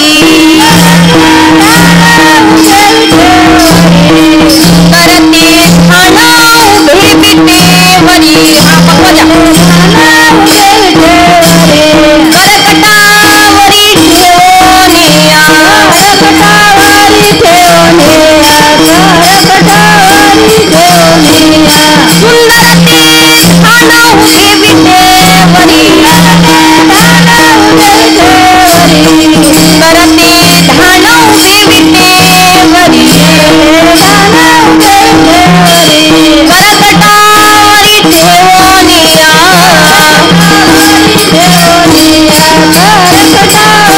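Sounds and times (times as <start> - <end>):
jingling percussion: 0.0 - 43.9
person singing ornamented melody: 0.0 - 43.9.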